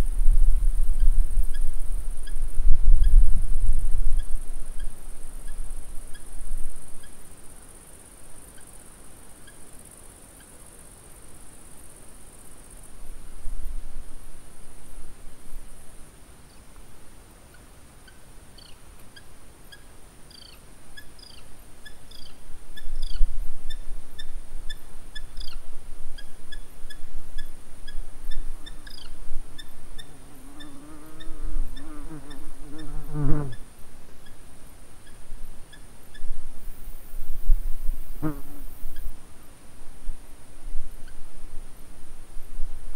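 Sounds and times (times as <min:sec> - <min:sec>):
insects buzzing: 0:00.0 - 0:16.7, 0:18.1 - 0:39.5.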